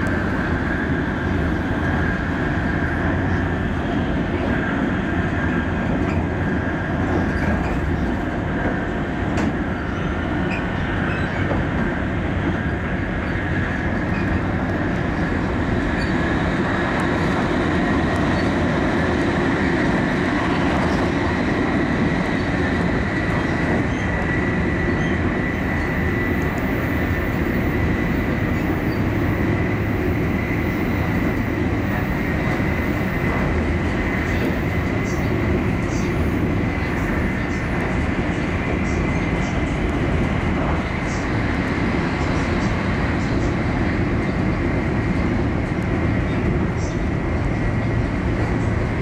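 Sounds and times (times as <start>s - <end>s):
train cabin rumble: 0.0s - 49.0s.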